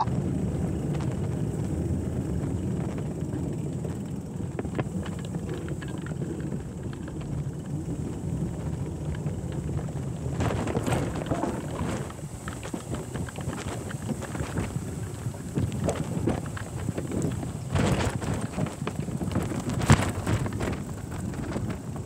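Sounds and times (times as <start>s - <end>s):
bicycle tyres rolling: 0.0s - 22.0s
wheels clattering over wooden planks: 0.0s - 22.0s
wind rumble on microphone: 0.0s - 22.0s.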